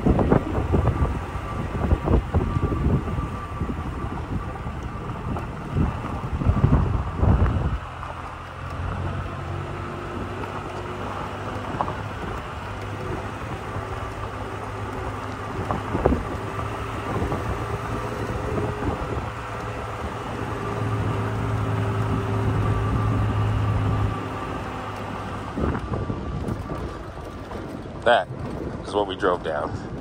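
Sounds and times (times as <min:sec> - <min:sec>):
truck engine humming: 0:00.0 - 0:30.0
tyres crunching on gravel: 0:01.6 - 0:30.0.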